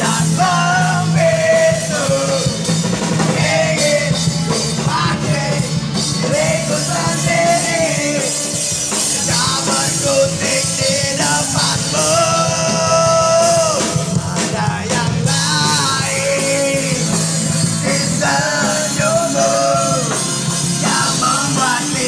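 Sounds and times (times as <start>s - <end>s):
electric guitar: 0.0s - 22.0s
rock band playing live: 0.0s - 22.0s
rock vocals singing: 0.0s - 22.0s.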